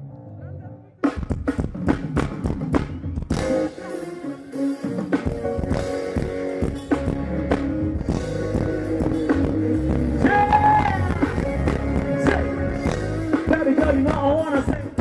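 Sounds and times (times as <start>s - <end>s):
live band playing pop music: 0.0s - 15.0s.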